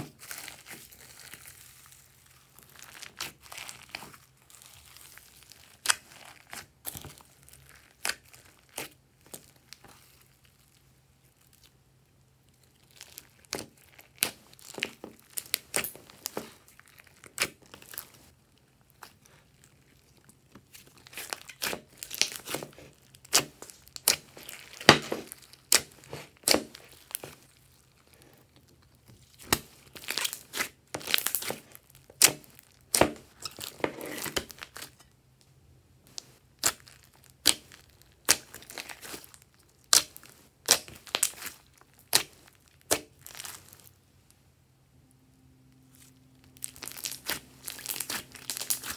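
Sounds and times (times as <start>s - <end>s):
slime clicking and crackling: 0.0s - 11.7s, 12.4s - 35.1s, 36.1s - 44.0s, 46.0s - 48.9s.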